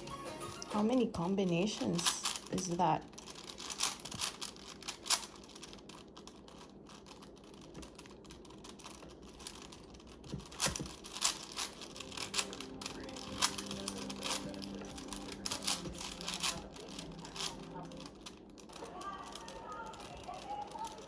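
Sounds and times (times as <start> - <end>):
plastic puzzle cube clicking: 1.4 - 21.0.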